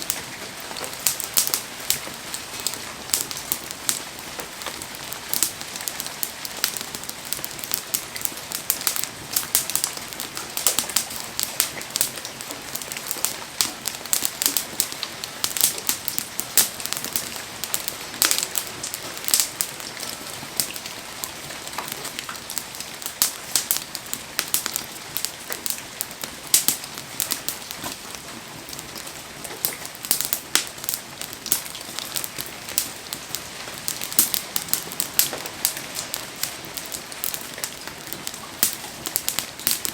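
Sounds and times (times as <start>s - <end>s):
campfire crackling and popping: 0.0s - 39.9s
rain hissing on surfaces: 0.0s - 39.9s.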